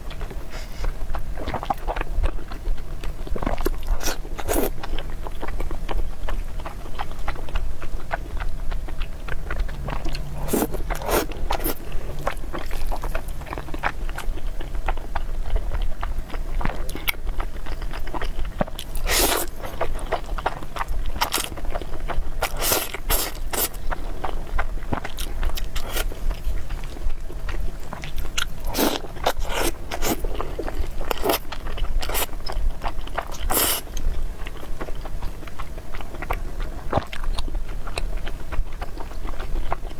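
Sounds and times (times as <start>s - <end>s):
steady low hum: 0.0s - 39.6s
person chewing noodles: 0.0s - 39.9s.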